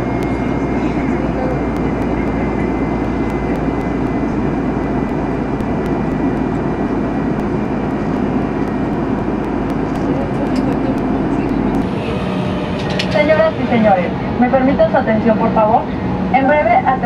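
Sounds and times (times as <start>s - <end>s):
aircraft cabin engine and airflow rush: 0.0s - 17.0s.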